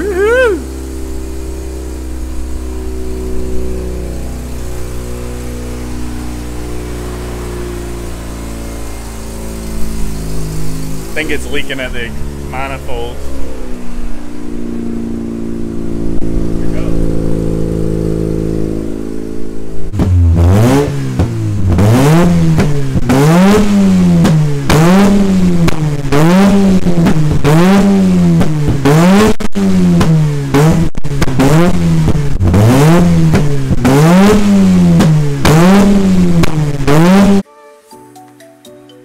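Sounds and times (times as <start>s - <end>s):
rotary engine idling and revving: 0.0s - 37.4s.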